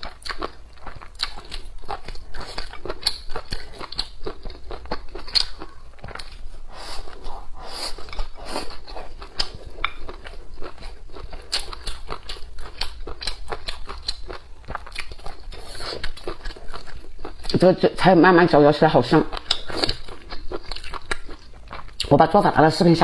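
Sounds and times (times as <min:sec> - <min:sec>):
close chewing and crunching: 0:00.0 - 0:23.0.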